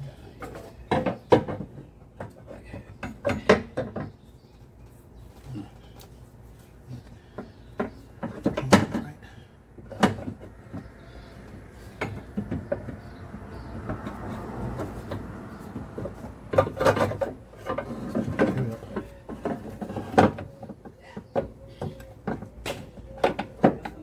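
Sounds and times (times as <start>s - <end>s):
tools and metal parts clunking: 0.1s - 5.4s, 7.3s - 9.2s, 9.8s - 10.9s, 11.5s - 24.0s.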